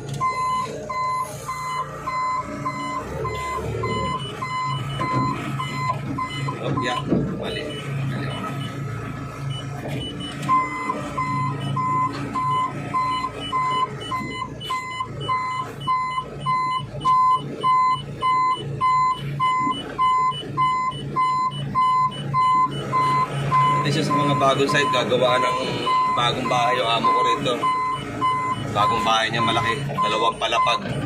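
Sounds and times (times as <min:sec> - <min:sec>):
machine engine humming: 0:00.0 - 0:31.0
warning beeper short beeps: 0:00.2 - 0:08.8, 0:09.5 - 0:31.0.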